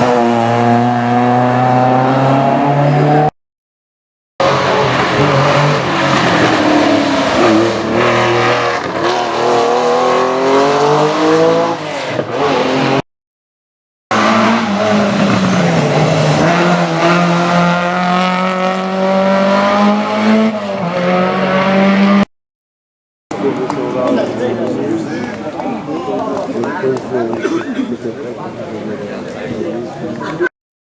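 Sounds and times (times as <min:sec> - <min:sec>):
rally car engines revving: 0:00.0 - 0:03.3, 0:04.4 - 0:13.0, 0:14.1 - 0:22.3, 0:23.3 - 0:30.5.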